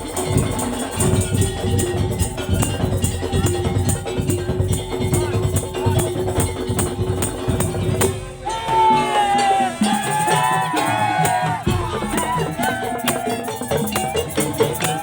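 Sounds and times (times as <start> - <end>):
slit drums and percussion beat: 0.0 - 15.0.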